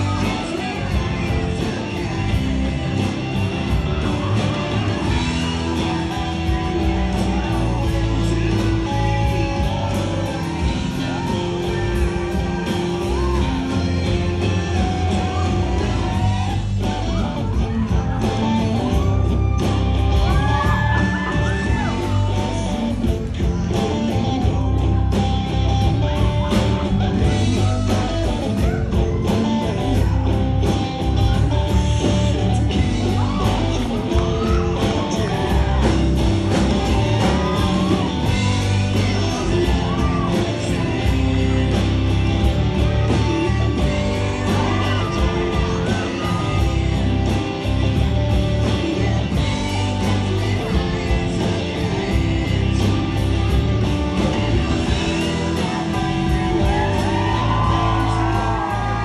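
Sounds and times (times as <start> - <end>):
rock song over sound system: 0.0 - 59.0.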